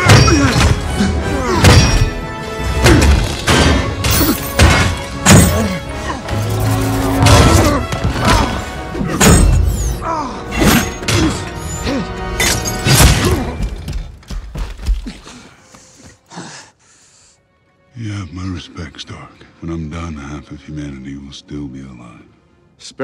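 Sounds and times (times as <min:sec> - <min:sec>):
dramatic score music: 0:00.0 - 0:23.0.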